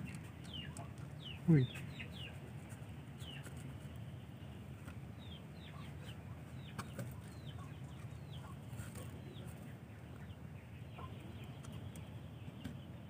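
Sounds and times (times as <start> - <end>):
birds peeping: 0.0 - 13.0
steady low hum: 0.0 - 13.0.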